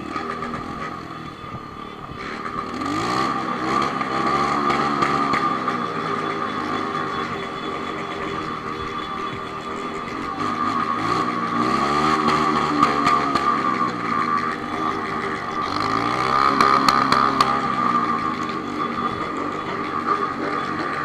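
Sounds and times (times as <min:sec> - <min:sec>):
motorcycle engine revving: 0:00.0 - 0:21.0
steady high-pitched tone: 0:00.0 - 0:21.0.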